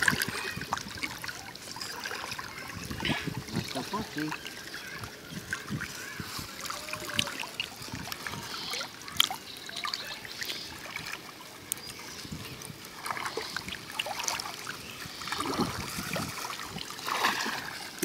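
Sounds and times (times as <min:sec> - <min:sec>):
small splashes: 0:00.0 - 0:18.0
water sloshing and trickling: 0:00.0 - 0:18.0.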